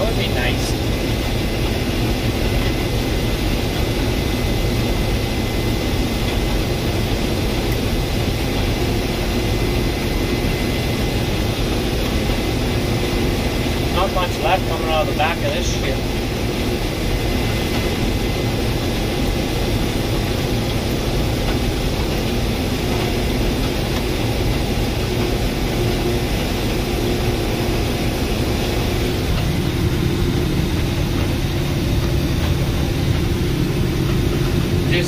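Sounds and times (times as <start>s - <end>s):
combine harvester drone: 0.0s - 35.0s.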